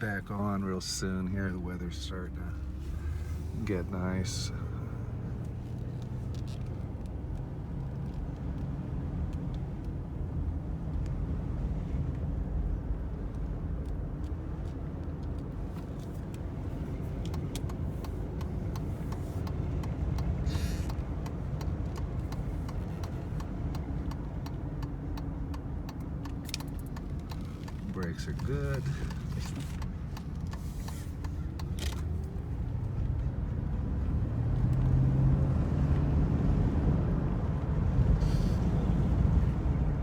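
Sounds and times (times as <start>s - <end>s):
engine and road drone in car: 0.0s - 40.0s.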